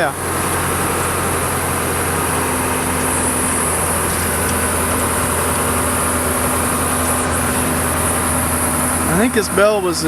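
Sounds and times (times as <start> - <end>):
aerial lift engine running: 0.0 - 10.0
high steady hum: 0.0 - 10.0.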